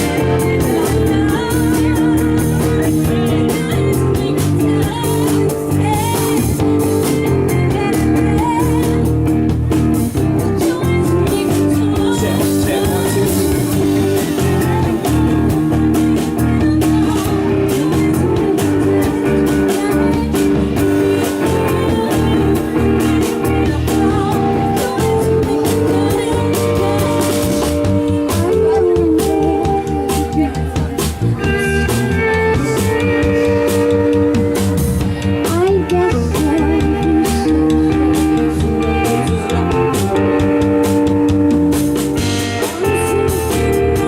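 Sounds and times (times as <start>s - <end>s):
blues-rock band playing: 0.0s - 44.0s
drums steady beat: 0.0s - 44.0s
guitar: 0.0s - 44.0s.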